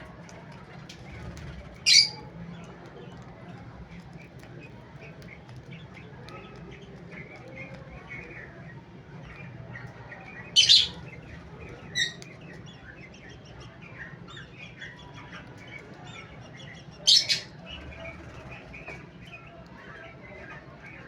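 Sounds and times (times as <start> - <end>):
cockatiels chirping softly: 0.0 - 21.0.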